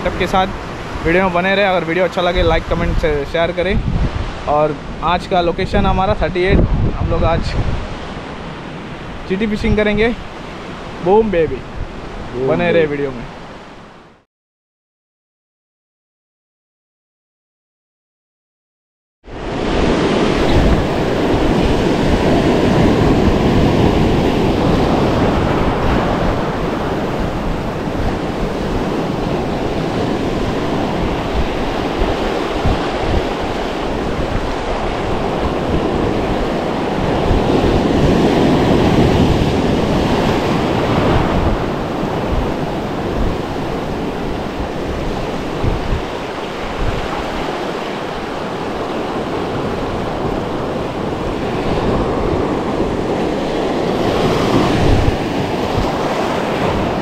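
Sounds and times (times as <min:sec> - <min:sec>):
surf washing over rocks: 0:00.0 - 0:13.9, 0:19.3 - 0:57.0
wind buffeting microphone: 0:00.0 - 0:14.0, 0:19.3 - 0:57.0.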